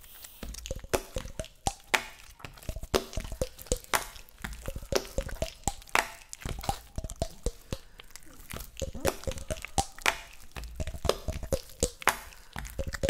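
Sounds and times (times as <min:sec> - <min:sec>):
wet crunching and squelching: 0:00.0 - 0:13.0.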